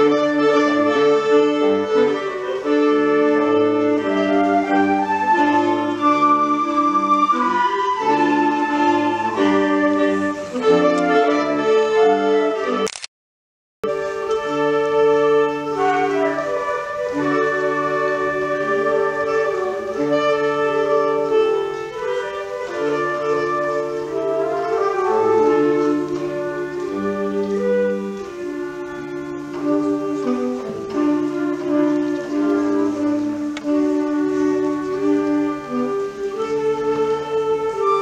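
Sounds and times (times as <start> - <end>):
small ensemble playing chords: 0.0 - 12.9, 13.8 - 38.0.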